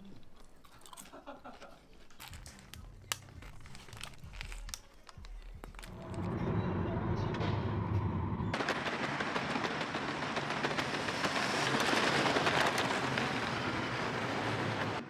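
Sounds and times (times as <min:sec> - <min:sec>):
low hum: 0:02.8 - 0:15.0.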